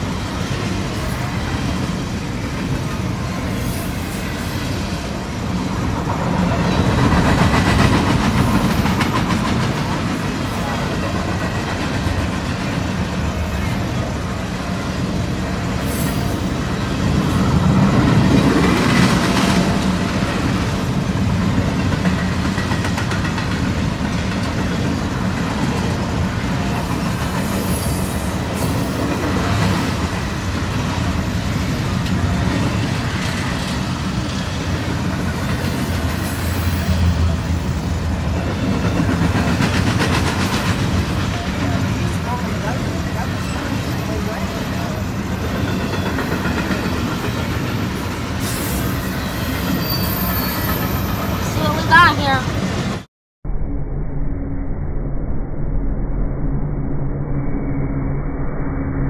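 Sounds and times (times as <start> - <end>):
freight train cars rumbling: 0.0 - 53.1.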